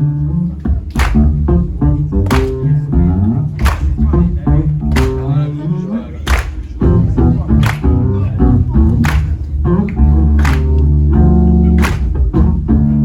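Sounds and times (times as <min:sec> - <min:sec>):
jazz-funk band playing: 0:00.0 - 0:13.0.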